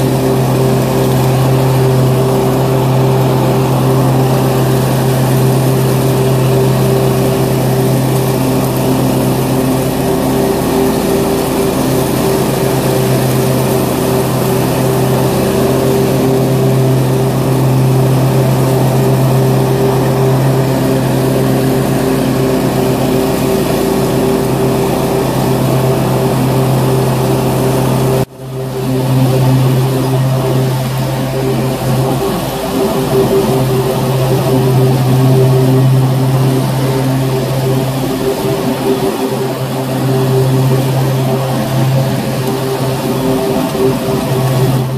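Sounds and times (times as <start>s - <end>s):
lawn mower engine running: 0.0s - 44.9s.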